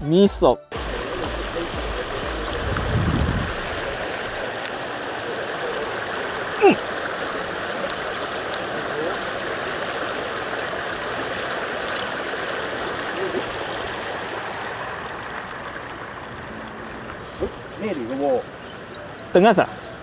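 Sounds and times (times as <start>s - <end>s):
stream running over pebbles: 0.7s - 20.0s.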